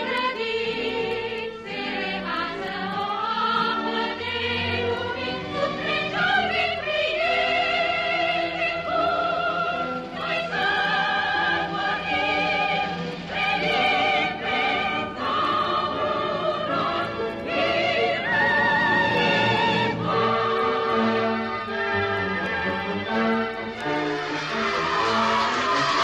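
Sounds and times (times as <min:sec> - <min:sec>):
instrumental accompaniment: 0:00.0 - 0:26.0
operatic singing with vibrato: 0:00.0 - 0:26.0.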